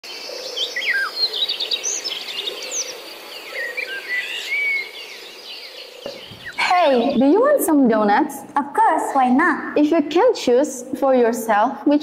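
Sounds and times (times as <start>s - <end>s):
birds chirping: 0.0s - 10.3s.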